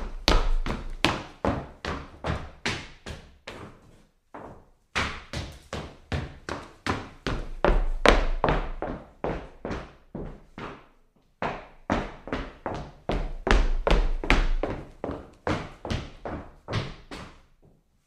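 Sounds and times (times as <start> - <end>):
hard-soled footsteps on wooden floor: 0.0 - 17.8.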